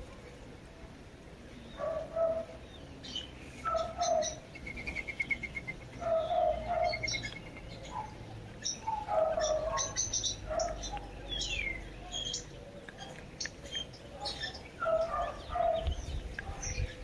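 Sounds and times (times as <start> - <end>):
low paired bird calls: 1.4 - 17.0.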